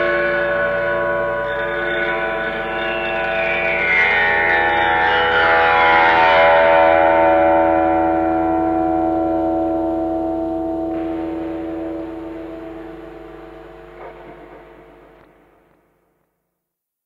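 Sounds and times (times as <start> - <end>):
background music sustained chord: 0.0 - 15.2.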